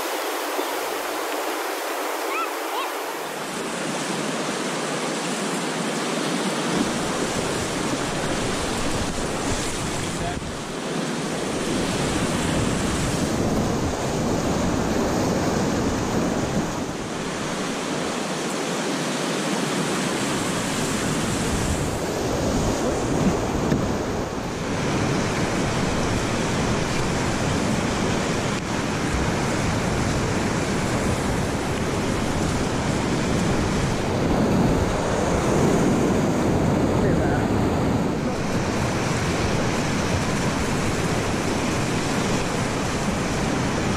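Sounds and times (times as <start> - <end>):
whitewater rushing: 0.0 - 43.9.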